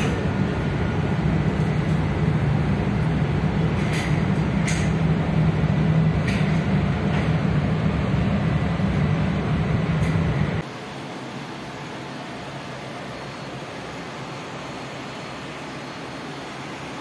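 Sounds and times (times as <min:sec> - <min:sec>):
ship engine drone: 0:00.0 - 0:17.0.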